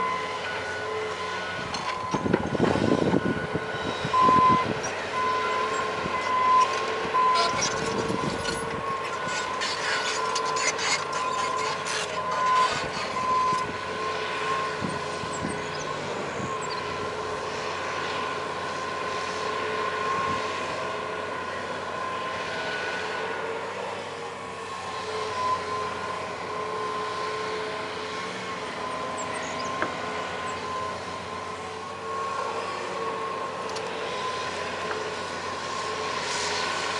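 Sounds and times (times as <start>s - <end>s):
excavator running with whine: 0.0s - 36.9s.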